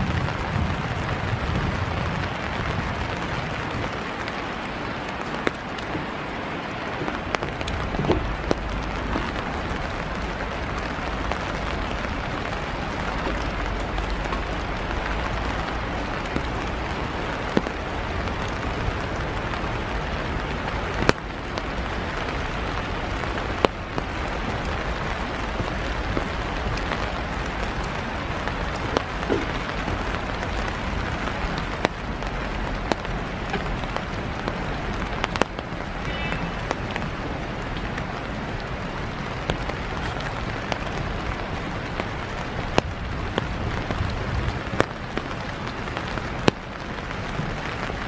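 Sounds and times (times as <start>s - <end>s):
light rain pattering: 0.0s - 48.0s.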